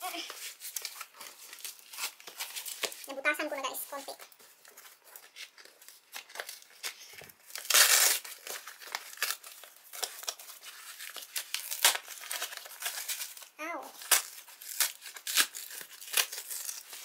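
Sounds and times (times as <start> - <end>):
cardboard tearing: 0.1 - 3.1, 4.6 - 17.0.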